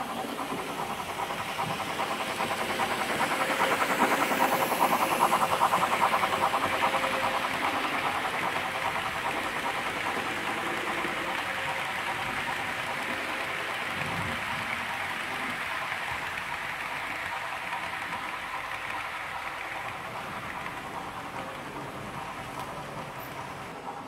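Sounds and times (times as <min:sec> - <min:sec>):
model train wheels on rails: 0:00.0 - 0:24.0.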